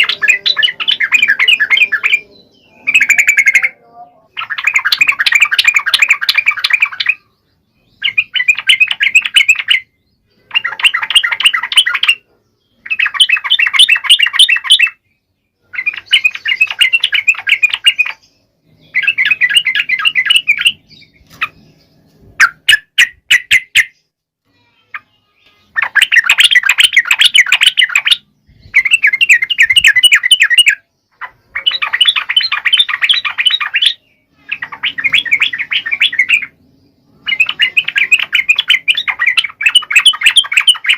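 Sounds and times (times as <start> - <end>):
bird singing rapid phrases: 0.0 - 40.9
sharp bird notes: 0.0 - 40.9.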